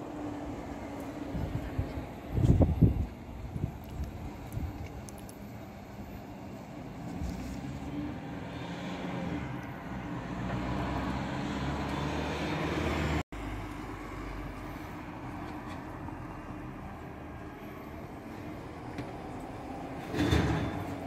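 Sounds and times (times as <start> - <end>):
bus passing: 0.0 - 21.0
cars passing: 0.0 - 21.0.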